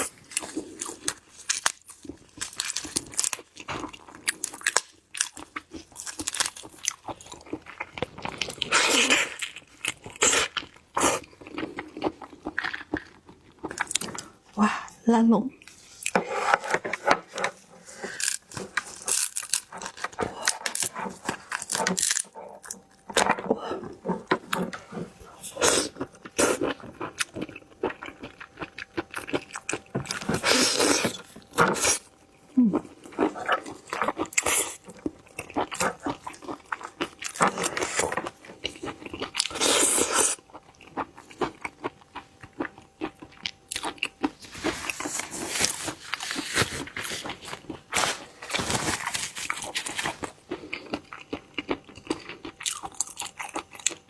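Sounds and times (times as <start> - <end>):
chewing with wet mouth sounds: 0.0 - 14.6, 16.8 - 47.9, 49.5 - 54.0.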